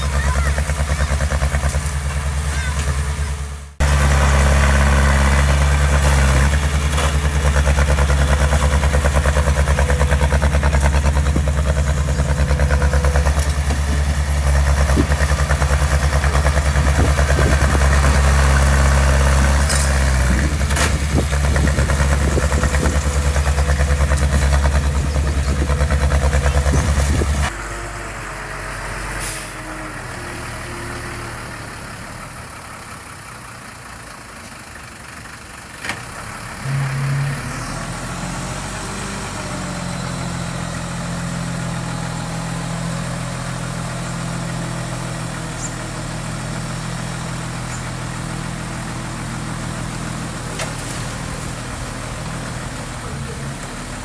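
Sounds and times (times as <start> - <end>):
diesel engine running: 0.0 - 54.0
distant engine: 0.0 - 54.0.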